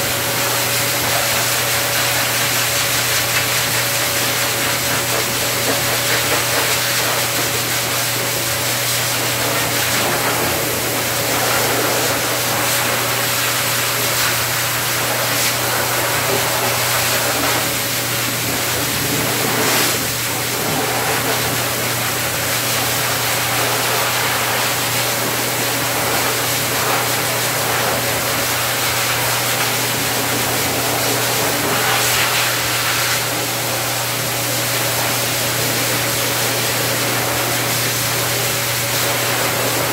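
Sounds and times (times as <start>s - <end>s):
blower dryer air rush: 0.0s - 39.9s.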